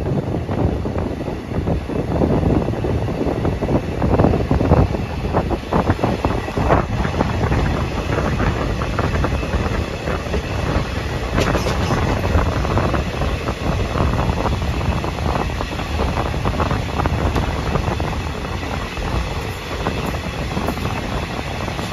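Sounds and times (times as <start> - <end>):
wind rushing on microphone: 0.0 - 21.9
train wheels clattering on rails: 2.2 - 21.9.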